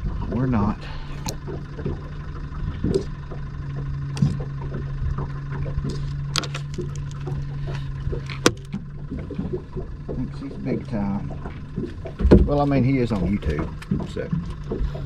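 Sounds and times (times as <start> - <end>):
boat motor humming: 0.0 - 15.0
light clicks and knocks: 1.2 - 15.0.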